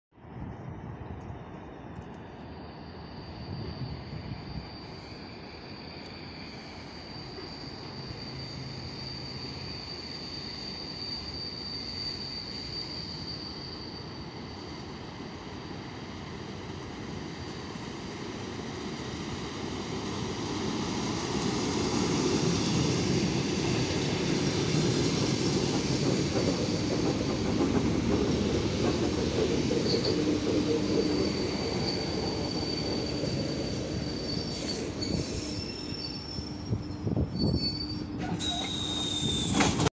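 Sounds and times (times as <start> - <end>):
electric train rumbling: 0.2 - 39.9
high steady squeal: 1.7 - 39.9.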